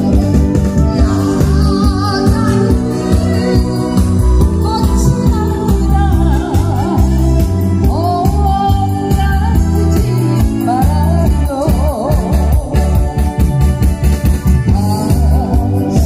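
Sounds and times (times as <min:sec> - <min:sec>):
person singing: 0:00.0 - 0:13.4, 0:14.7 - 0:16.0
backing music with steady beat: 0:00.0 - 0:16.0.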